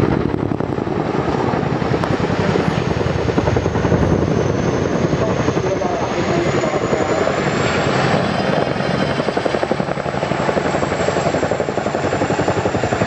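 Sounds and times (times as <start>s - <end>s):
helicopter rotor blade chop: 0.0s - 13.0s.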